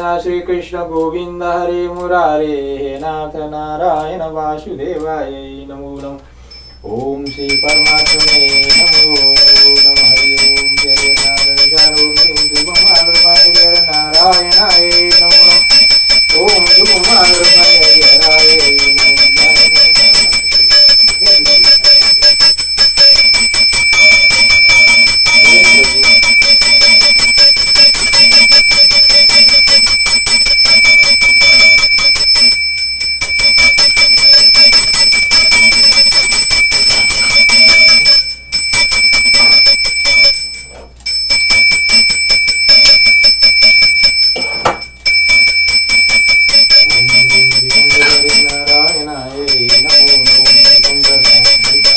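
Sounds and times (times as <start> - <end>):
small hand bell ringing: 6.5 - 51.9.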